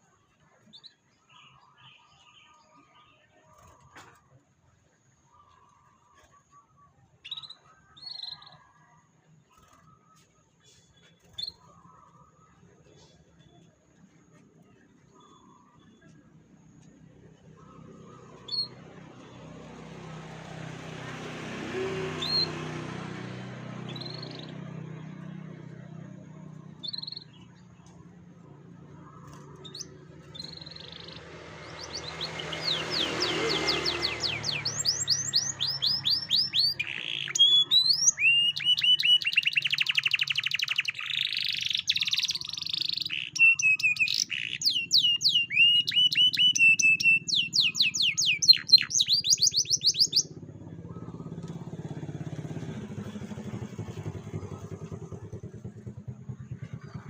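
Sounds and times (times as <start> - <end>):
canary singing trills: 5.3 - 8.8, 9.5 - 57.0.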